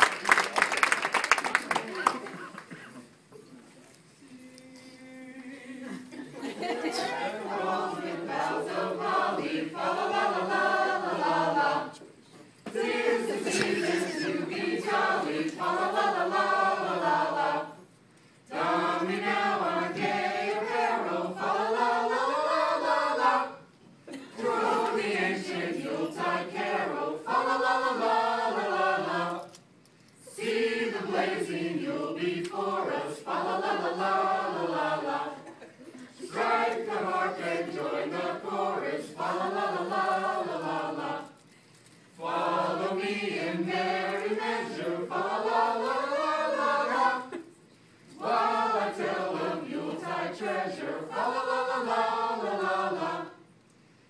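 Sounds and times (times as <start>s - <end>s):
group singing unaccompanied: 5.8s - 12.1s, 12.7s - 17.8s, 18.5s - 23.7s, 24.3s - 29.6s, 30.3s - 41.4s, 42.2s - 47.5s, 48.1s - 53.5s.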